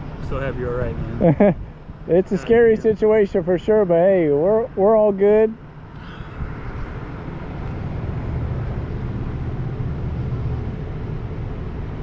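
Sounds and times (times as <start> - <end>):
large vehicle engine rumbling: 0.0 - 12.0.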